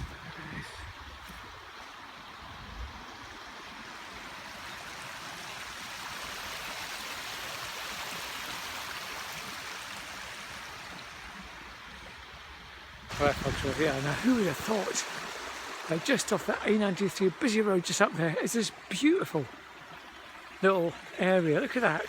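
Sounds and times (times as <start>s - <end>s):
water rushing in stream: 0.0s - 22.0s.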